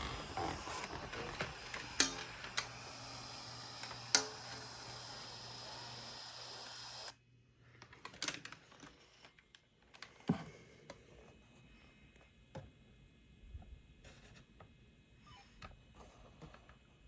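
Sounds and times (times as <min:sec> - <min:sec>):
steady hiss with low hum: 0:00.0 - 0:17.0.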